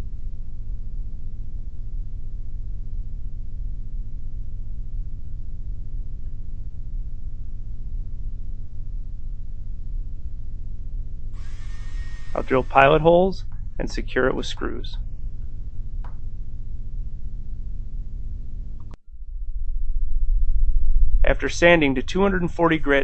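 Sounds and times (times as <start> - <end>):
low-pitched background hum: 0.0 - 23.0.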